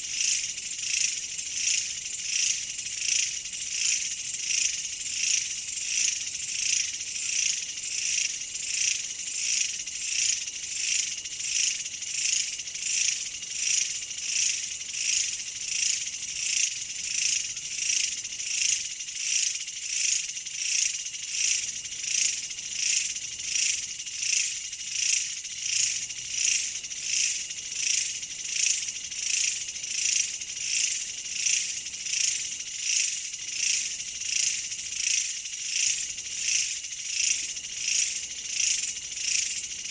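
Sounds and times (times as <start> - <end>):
insects buzzing in chorus: 0.0 - 39.9.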